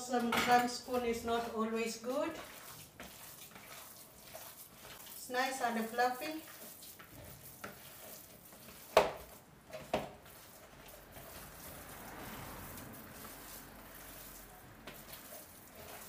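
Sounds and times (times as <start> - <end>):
hands squishing wet meat mixture: 0.0 - 16.0.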